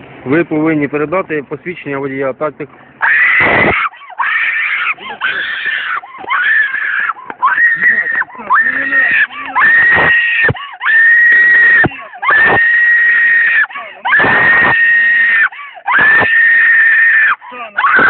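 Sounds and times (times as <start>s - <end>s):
woman screaming: 3.0s - 18.0s.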